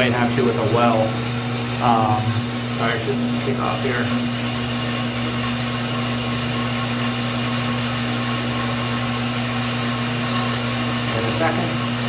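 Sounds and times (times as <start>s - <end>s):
pump motor humming: 0.0s - 12.0s.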